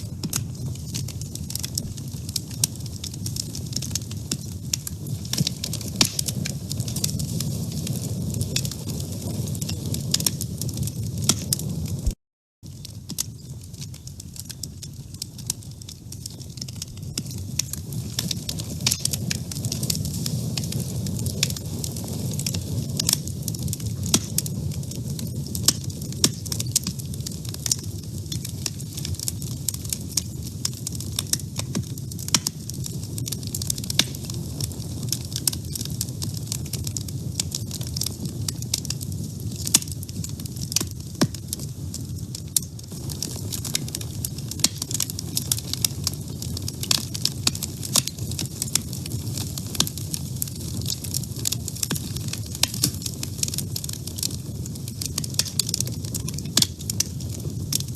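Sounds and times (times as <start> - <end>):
fire burning in woodstove: 0.0 - 57.9
fire crackling and popping: 0.0 - 57.9.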